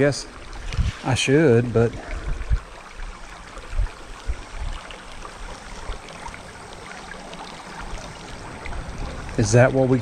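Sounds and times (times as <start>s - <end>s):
creek water babbling: 0.0s - 10.0s.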